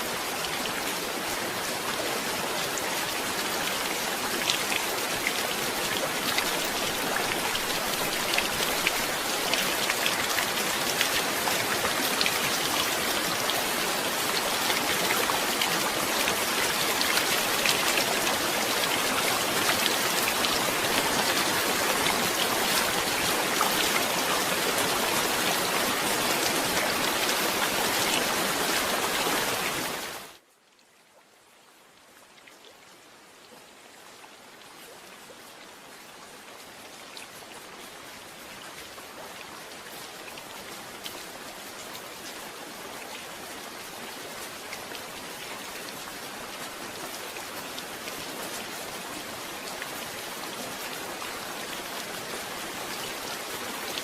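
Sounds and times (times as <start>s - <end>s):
heavy rain falling: 0.0s - 30.4s, 37.4s - 54.0s.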